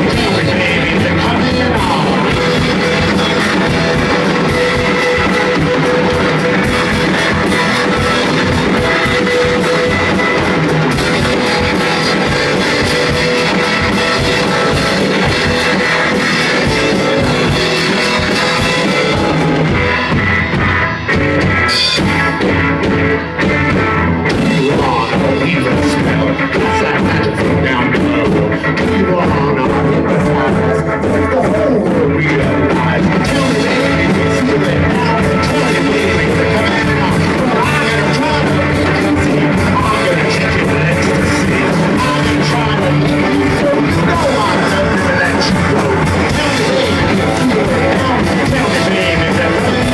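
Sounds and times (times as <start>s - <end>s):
drum kit: 0.0s - 49.9s
electric guitar: 0.0s - 49.9s.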